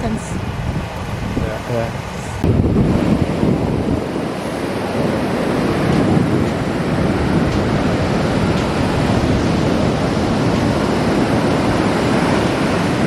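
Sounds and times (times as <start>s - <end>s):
ocean surf breaking on sand: 0.0s - 13.0s.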